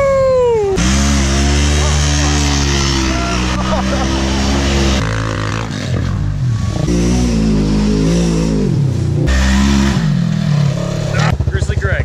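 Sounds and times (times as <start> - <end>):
off-road vehicle engines revving: 0.0 - 12.0.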